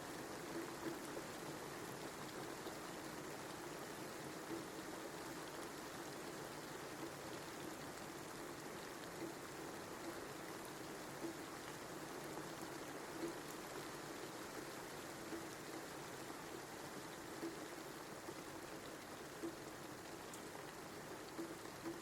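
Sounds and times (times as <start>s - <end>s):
steady rain patter: 0.0s - 22.0s.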